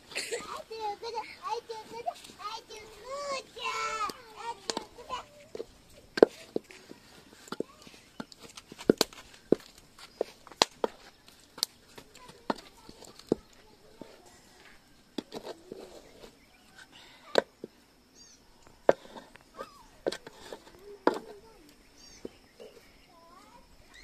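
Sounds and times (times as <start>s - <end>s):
faint voices: 0.0s - 8.8s, 11.0s - 17.8s, 18.4s - 24.0s.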